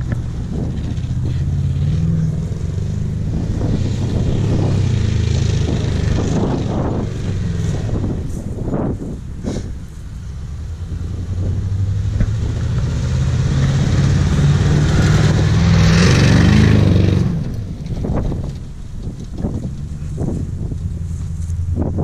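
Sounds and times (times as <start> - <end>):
car engine driving by: 0.0 - 22.0.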